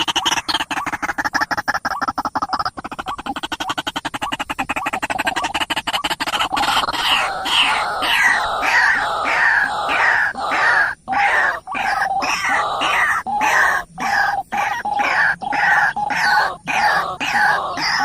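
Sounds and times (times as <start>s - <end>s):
birds calling harshly: 0.0s - 18.0s.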